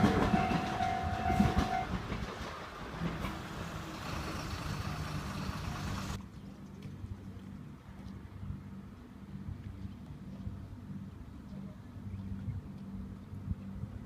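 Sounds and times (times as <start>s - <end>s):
train rumble and wheel clatter: 0.0s - 14.0s.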